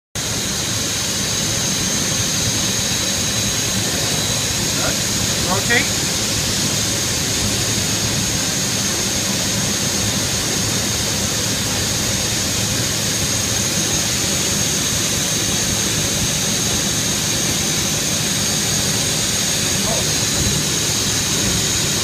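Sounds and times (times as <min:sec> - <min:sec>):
constant rushing noise: 0:00.2 - 0:22.0
router spindle whine: 0:00.2 - 0:22.0.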